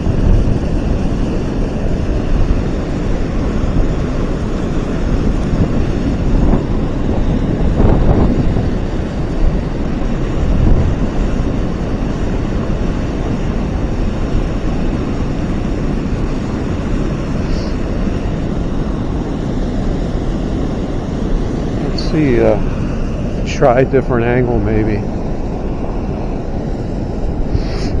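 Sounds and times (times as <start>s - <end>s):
water rushing over dam: 0.0s - 28.0s
wind buffeting microphone: 0.0s - 28.0s.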